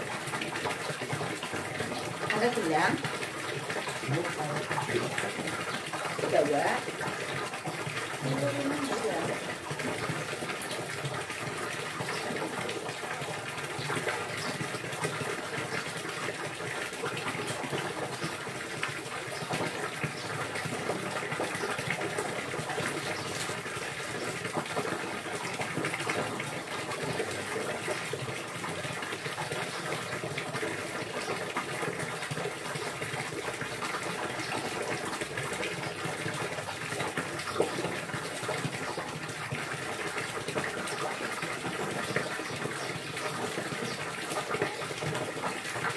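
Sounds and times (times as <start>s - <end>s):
water pouring and splashing: 0.0s - 45.9s.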